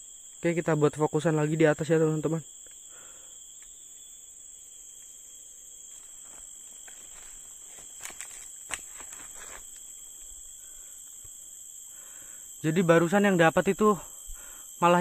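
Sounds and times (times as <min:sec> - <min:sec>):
forest insects droning: 0:00.0 - 0:15.0.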